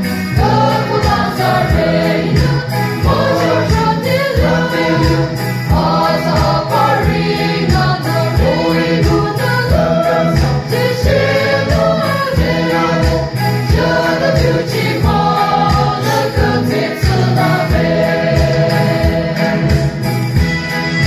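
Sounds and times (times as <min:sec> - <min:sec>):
choir singing a hymn: 0:00.0 - 0:20.4
low thudding beat: 0:00.4 - 0:20.7.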